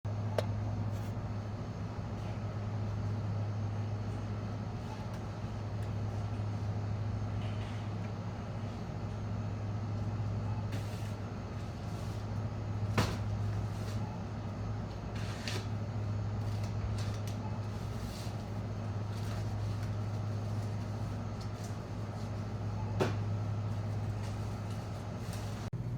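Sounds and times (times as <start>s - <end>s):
low mechanical hum: 0.1s - 25.9s.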